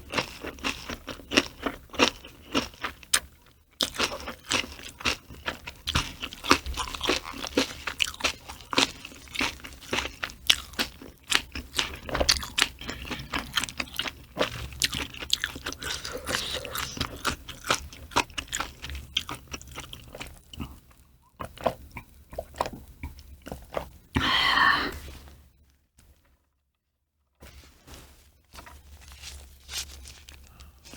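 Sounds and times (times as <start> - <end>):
crunchy chewing of food: 0.0 - 26.4, 27.4 - 30.9.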